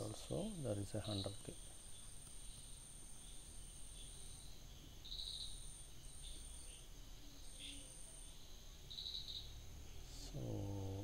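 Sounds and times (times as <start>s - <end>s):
high-pitched insect chirring: 0.0s - 11.0s
low room noise: 0.0s - 11.0s.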